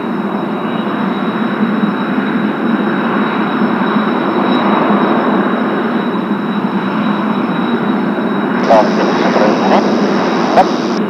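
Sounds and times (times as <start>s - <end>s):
high jet whine: 0.0s - 11.0s
jet engines rushing: 0.0s - 11.0s.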